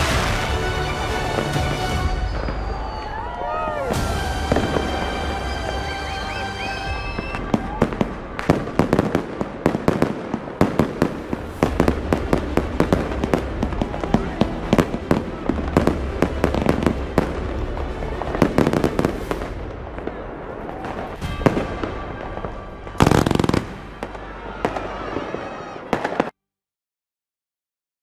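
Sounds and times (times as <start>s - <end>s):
loud firework burst: 0.0s - 26.3s
fireworks bangs and crackles: 0.0s - 26.4s.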